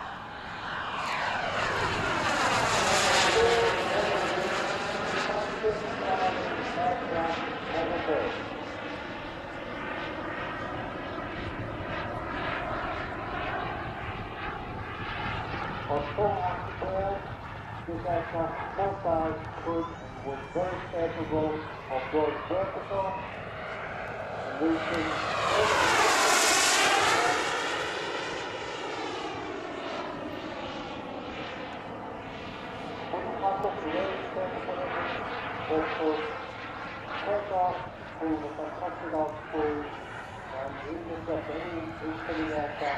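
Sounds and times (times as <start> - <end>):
jet turbines rushing: 0.0 - 42.9.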